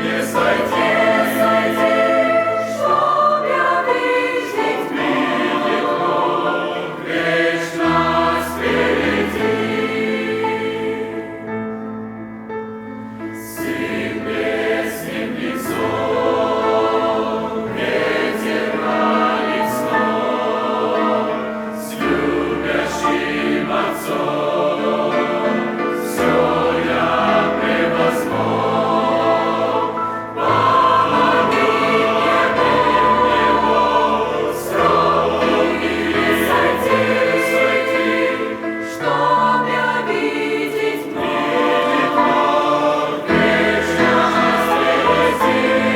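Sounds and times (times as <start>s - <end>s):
church choir singing a hymn: 0.0s - 45.9s.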